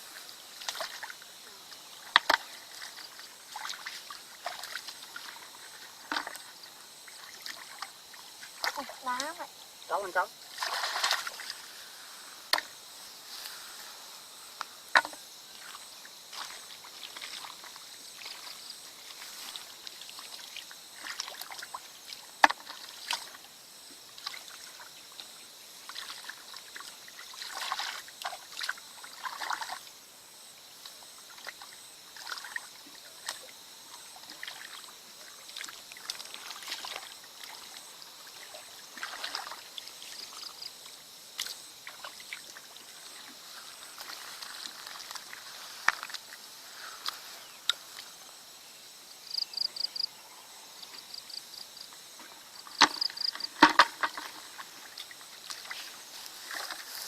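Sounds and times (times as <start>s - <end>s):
water sloshing and splashing: 0.1s - 11.9s, 15.0s - 23.5s, 24.1s - 29.9s, 30.9s - 46.5s, 52.2s - 57.0s.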